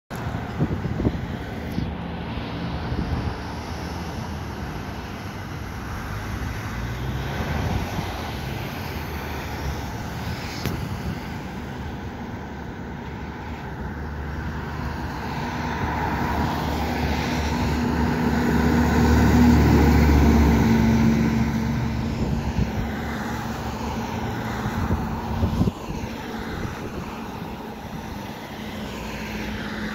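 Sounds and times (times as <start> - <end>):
road traffic: 0.1 - 29.9
fire engine diesel passing: 0.2 - 29.9.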